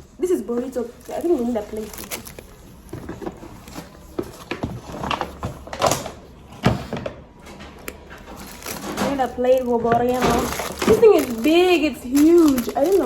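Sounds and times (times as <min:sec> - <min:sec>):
packaging rustling: 0:00.2 - 0:13.0.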